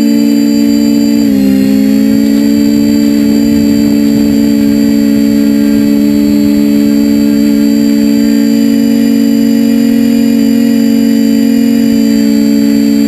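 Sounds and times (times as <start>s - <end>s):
drone motors buzzing: 0.0s - 13.0s.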